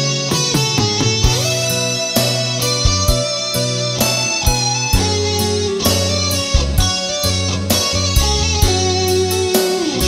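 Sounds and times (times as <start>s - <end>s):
bass: 0.0s - 10.0s
electric guitar instrumental music: 0.0s - 10.0s
steady beat: 0.0s - 10.0s.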